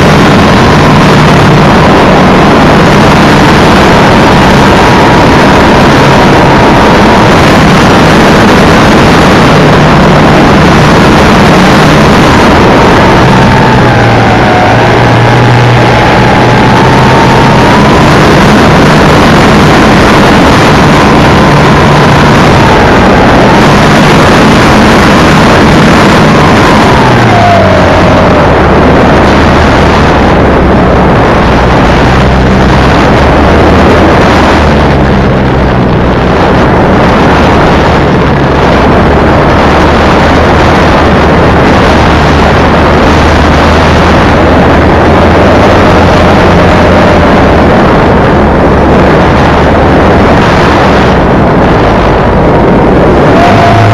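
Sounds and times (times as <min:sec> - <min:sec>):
air rushing over camera: 0:00.0 - 0:53.9.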